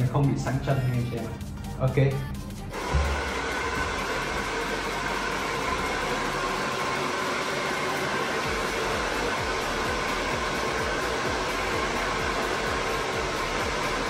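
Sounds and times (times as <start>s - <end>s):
hair dryer blowing: 2.7s - 14.0s.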